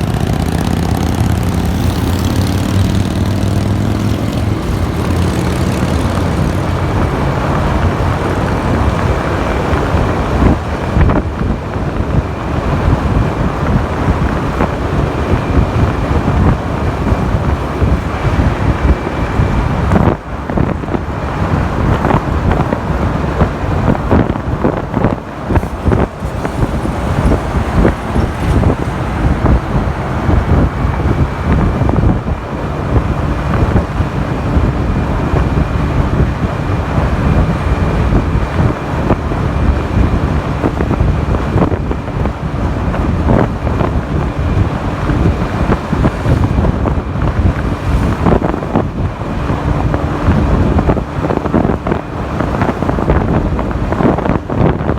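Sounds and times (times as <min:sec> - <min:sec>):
road and traffic noise: 0:00.0 - 0:54.9
wind buffeting microphone: 0:00.0 - 0:54.9.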